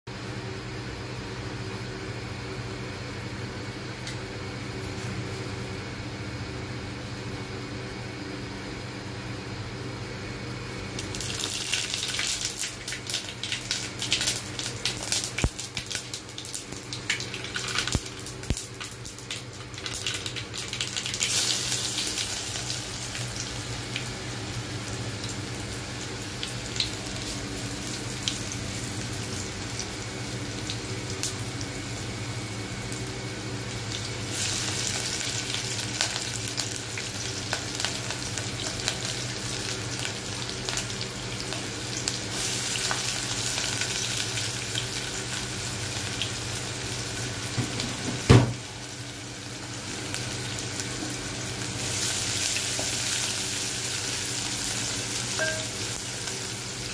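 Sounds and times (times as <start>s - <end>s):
steady low hum: 0.1s - 56.9s
hot oil sizzling and spitting: 11.0s - 56.9s.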